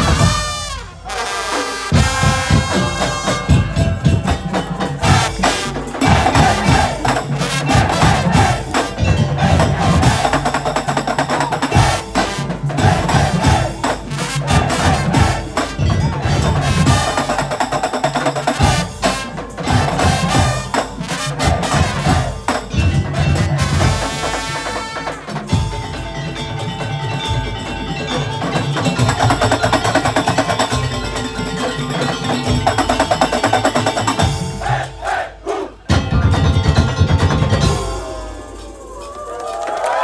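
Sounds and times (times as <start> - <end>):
drums driving rhythm: 0.0 - 40.0
wooden slit drums: 0.0 - 40.0.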